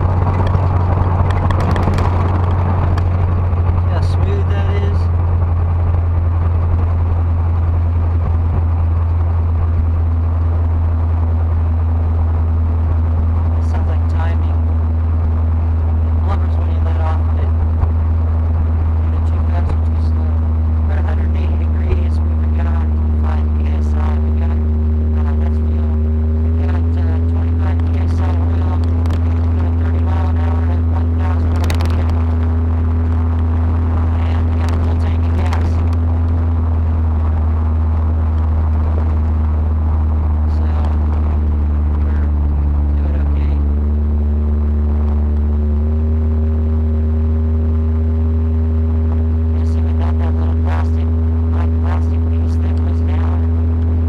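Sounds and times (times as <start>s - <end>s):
car engine running steadily: 0.0s - 54.0s.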